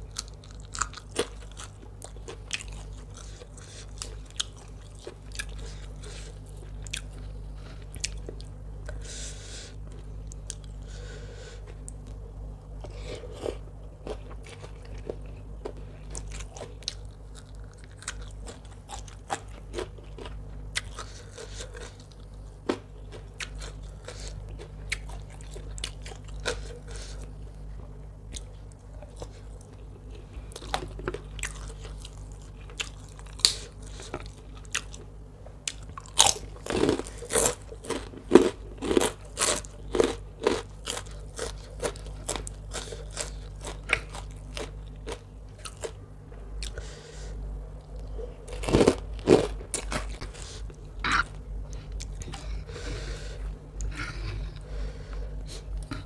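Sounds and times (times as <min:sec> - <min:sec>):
crunchy chewing: 0:00.0 - 0:09.2, 0:09.8 - 0:46.0, 0:46.6 - 0:56.0.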